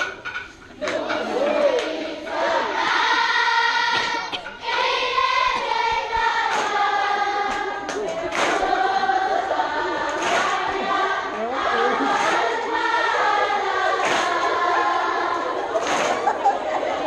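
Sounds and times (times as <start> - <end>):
group singing held notes: 0.7 - 17.0.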